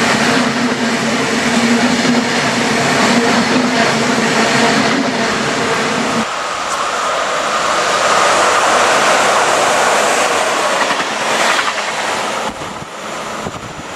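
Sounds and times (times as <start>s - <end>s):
train wheels clattering over track: 0.0s - 13.9s.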